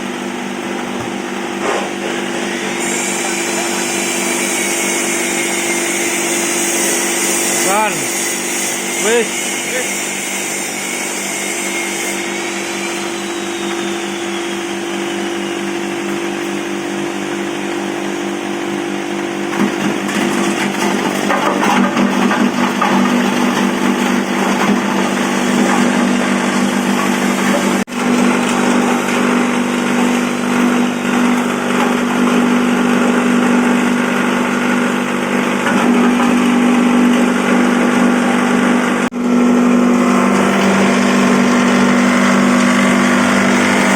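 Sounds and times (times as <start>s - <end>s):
grinding machine humming: 0.0s - 43.9s.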